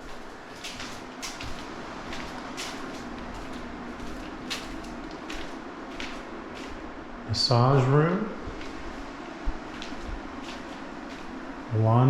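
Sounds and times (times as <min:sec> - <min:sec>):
footsteps scuffing on subfloor: 0:00.0 - 0:11.7
steady background hum: 0:00.0 - 0:12.0.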